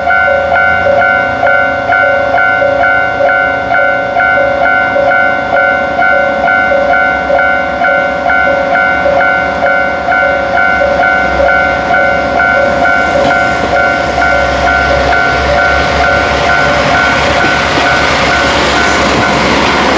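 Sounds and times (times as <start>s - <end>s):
level crossing bell ringing: 0.0s - 19.7s
diesel railcar rumble: 0.0s - 19.9s.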